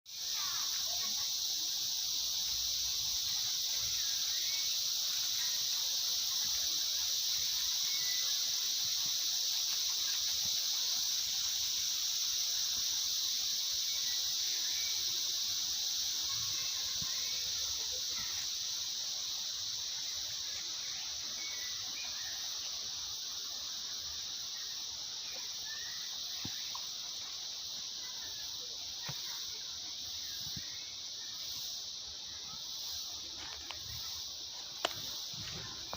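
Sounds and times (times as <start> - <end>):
faint insect chirps: 0.1 - 35.9
insects buzzing drone: 0.1 - 35.9.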